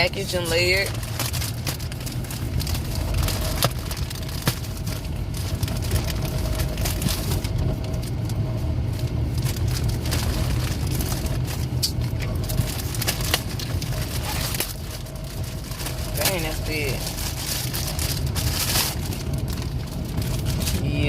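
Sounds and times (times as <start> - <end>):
plastic packaging crinkling: 0.0 - 21.0
steady low rumble: 0.0 - 21.0.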